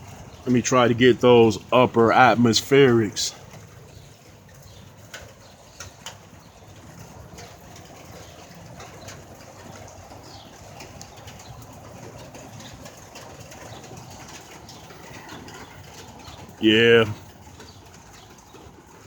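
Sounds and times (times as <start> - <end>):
birds calling: 0.0 - 18.7
drips ticking: 0.0 - 19.0
steady rain falling: 0.0 - 19.0.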